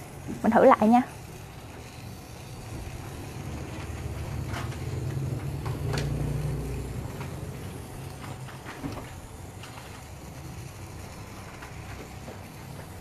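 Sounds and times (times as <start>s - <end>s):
toy electric motor humming: 0.0s - 13.0s.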